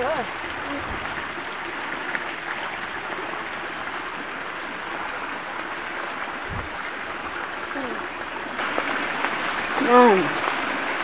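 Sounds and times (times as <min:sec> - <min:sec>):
flowing stream: 0:00.0 - 0:11.0.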